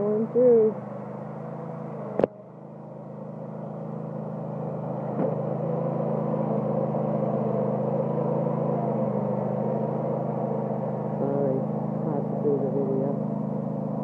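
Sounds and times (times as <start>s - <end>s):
lawn tractor engine running: 0.0s - 14.0s.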